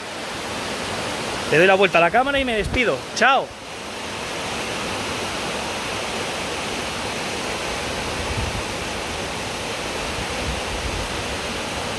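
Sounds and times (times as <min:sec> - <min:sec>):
stream rushing over rocks: 0:00.0 - 0:11.9.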